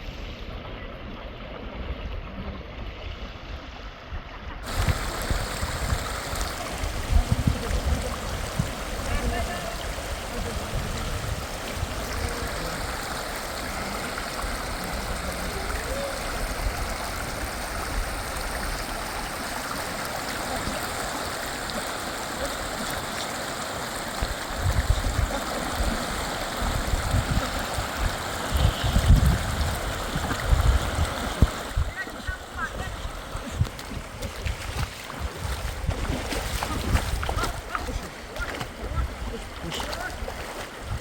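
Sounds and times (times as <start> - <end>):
river rushing: 4.6 - 41.0.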